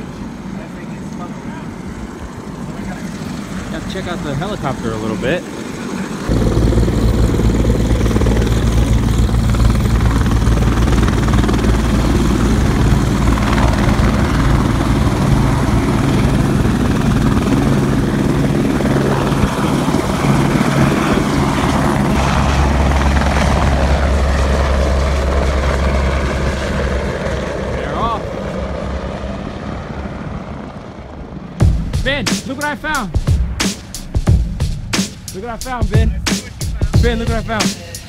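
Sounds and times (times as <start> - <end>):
helicopter rotor and engine: 0.0 - 38.0.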